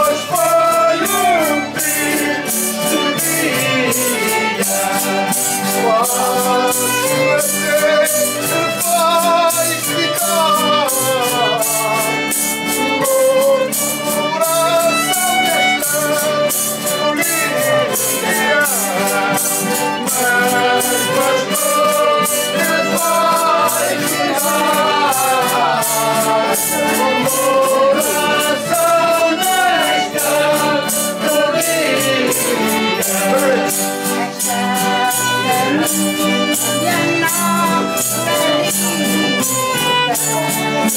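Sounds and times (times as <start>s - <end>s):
accompanying instruments: 0.0s - 40.9s
folk group singing together: 0.0s - 40.9s
steady percussion beat: 0.0s - 40.9s.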